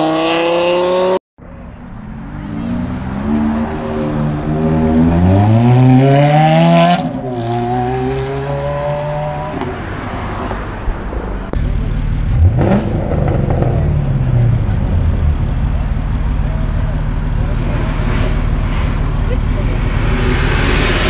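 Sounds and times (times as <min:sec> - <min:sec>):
sports car engine revving: 0:02.2 - 0:09.7, 0:11.6 - 0:21.0.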